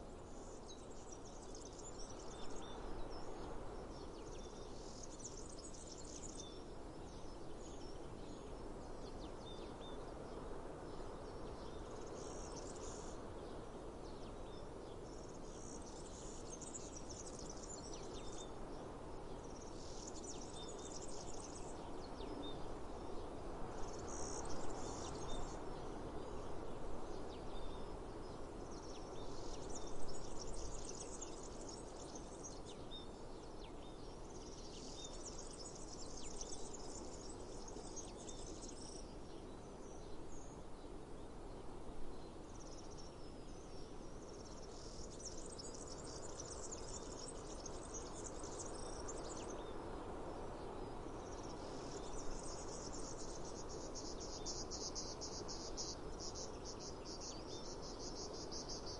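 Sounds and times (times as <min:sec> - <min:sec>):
low outdoor hiss: 0:00.0 - 0:58.9.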